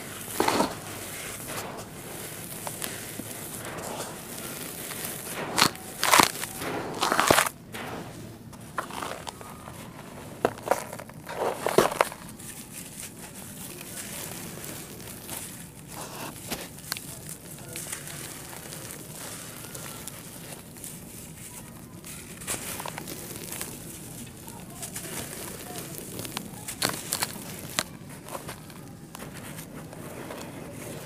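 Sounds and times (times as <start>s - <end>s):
dry dirt crunching by hand: 0.0s - 31.0s.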